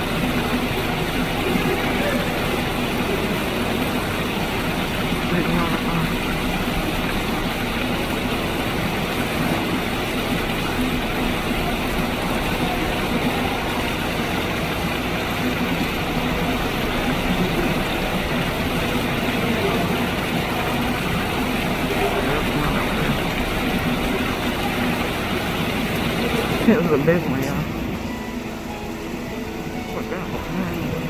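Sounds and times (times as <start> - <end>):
waterfall roar: 0.0 - 31.0.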